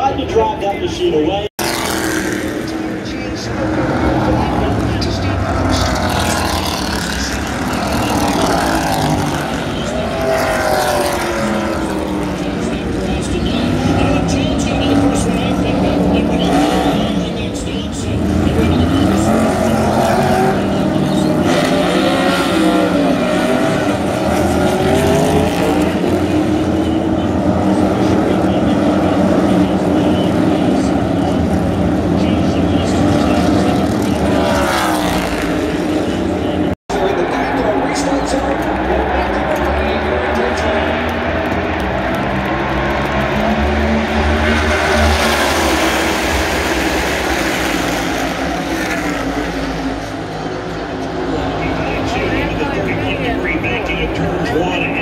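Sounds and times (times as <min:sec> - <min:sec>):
race car engines running: 0:00.0 - 0:55.0.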